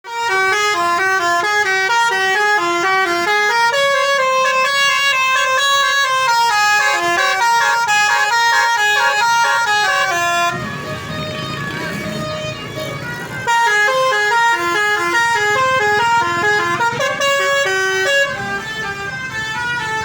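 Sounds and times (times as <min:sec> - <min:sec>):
musical bus horns playing a tune: 0:00.0 - 0:20.0.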